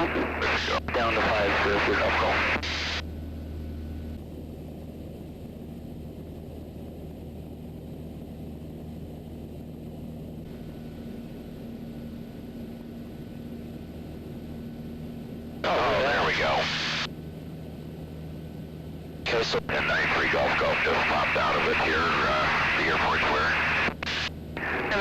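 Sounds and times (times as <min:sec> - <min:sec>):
aircraft engine and propeller droning: 0:00.0 - 0:25.0.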